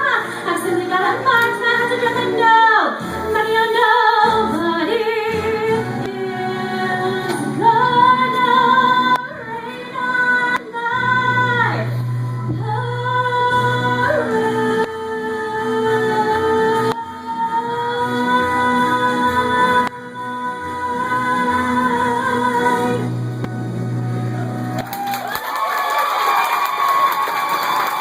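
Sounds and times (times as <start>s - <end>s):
young woman singing: 0.0s - 23.2s.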